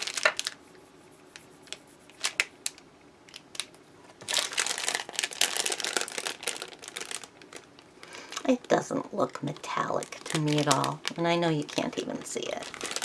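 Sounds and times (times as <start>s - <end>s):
plastic bag crinkling: 0.0s - 0.6s, 1.7s - 13.0s.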